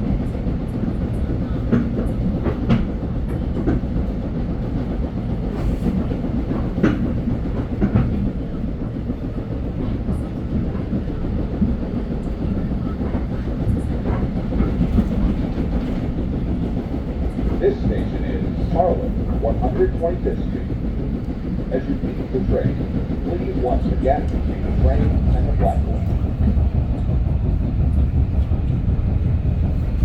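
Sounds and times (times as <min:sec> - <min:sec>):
train rumbling on rails: 0:00.0 - 0:30.0
train wheels clacking: 0:00.1 - 0:30.0.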